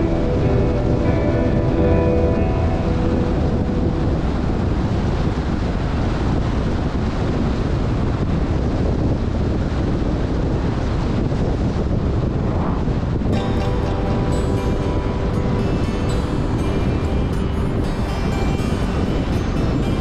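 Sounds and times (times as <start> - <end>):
car road and wind noise: 0.0 - 20.0
heavy low rumble: 0.0 - 20.0.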